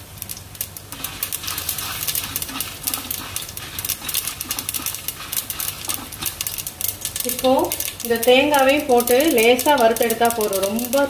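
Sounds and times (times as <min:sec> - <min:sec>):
seeds crackling in a pan: 0:00.0 - 0:11.0.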